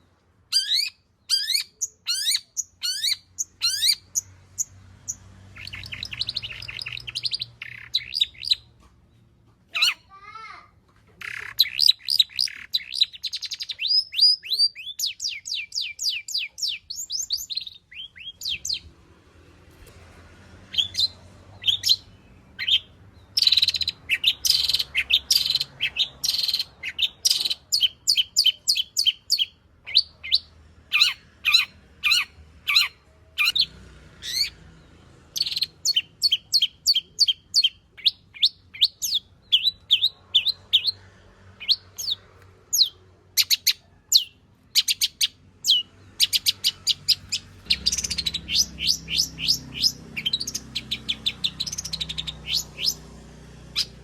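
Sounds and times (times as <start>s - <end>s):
bird singing sharp chirps: 0.5s - 8.7s, 11.2s - 18.9s, 20.7s - 34.6s, 35.4s - 41.0s, 41.6s - 54.0s.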